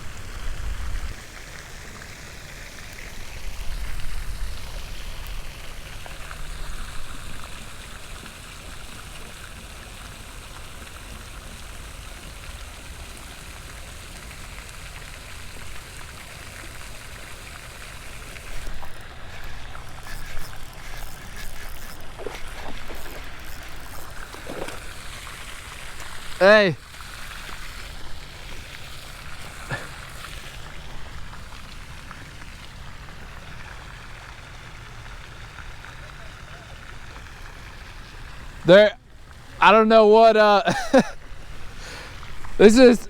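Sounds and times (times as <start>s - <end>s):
fountain spray splashing on water: 0.0s - 43.0s.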